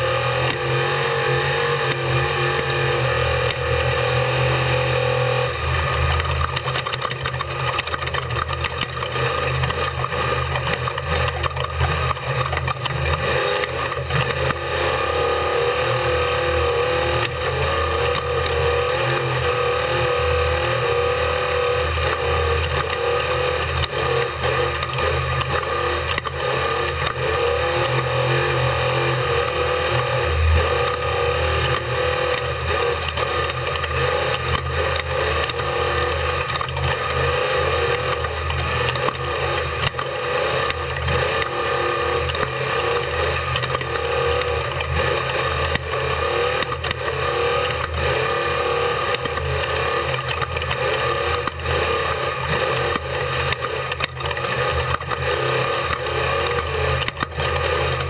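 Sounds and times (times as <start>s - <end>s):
truck engine running hard: 0.0s - 58.0s.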